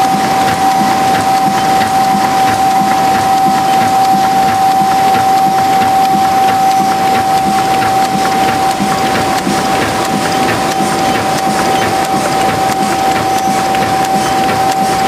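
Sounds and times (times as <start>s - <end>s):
coating machine clattering: 0.0s - 15.0s
constant whining tone: 0.0s - 15.0s.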